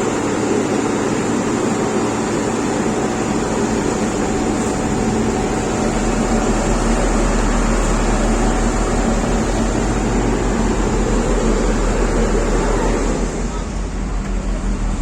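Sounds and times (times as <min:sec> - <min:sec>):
machinery engine running: 0:00.0 - 0:15.0.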